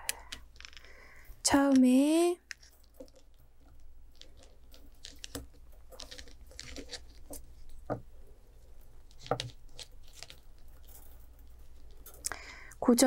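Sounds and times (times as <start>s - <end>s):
wire winding clicks and scrapes: 0.0s - 13.0s.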